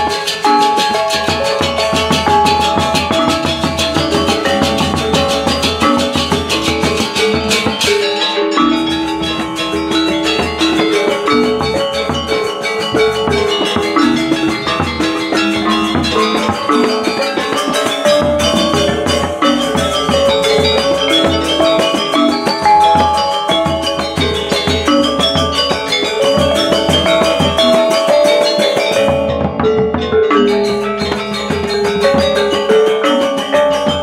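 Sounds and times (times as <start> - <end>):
drum strokes: 0.0 - 34.0
gongs and metallophones ringing: 0.0 - 34.0.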